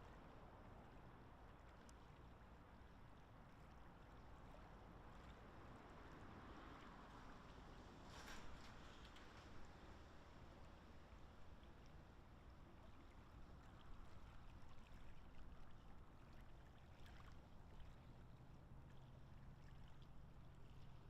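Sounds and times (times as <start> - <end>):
soft water sounds: 0.0 - 21.0.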